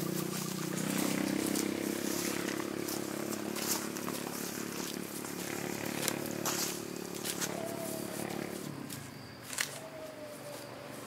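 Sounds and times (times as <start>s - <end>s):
hoe scraping and knocking soil: 0.0s - 9.7s
two-stroke auger engine running: 0.0s - 9.8s.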